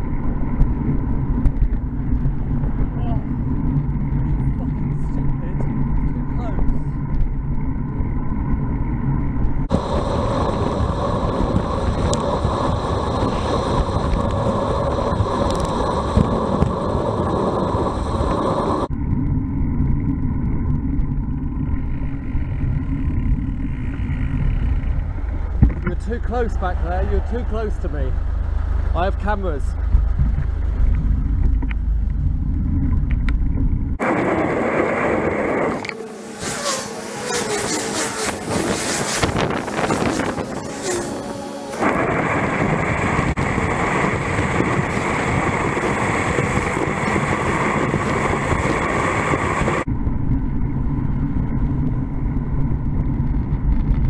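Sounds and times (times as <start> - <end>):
wind rush and road noise: 0.0 - 54.0.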